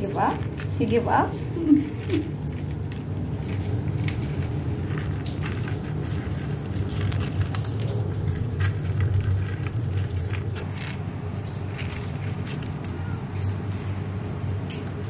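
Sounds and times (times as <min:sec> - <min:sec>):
kitten crunching kibble: 0:00.0 - 0:15.0
pellets clicking on plastic tray: 0:00.0 - 0:15.0
steady low rumble: 0:00.0 - 0:15.0.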